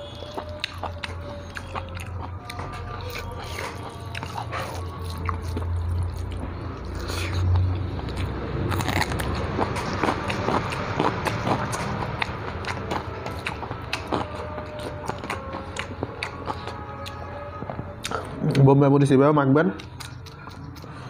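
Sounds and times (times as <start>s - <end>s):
chewing and crunching: 0.0s - 19.1s, 19.7s - 21.0s.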